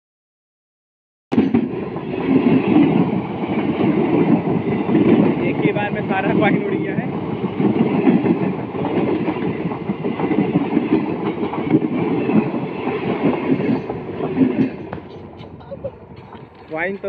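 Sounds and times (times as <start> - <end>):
train wheels rumbling over rail: 1.3 - 17.0.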